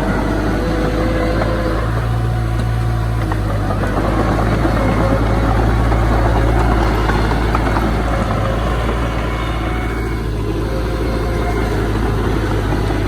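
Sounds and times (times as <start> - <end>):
heavy diesel engine droning: 0.0 - 13.0
machinery clattering: 0.0 - 13.0.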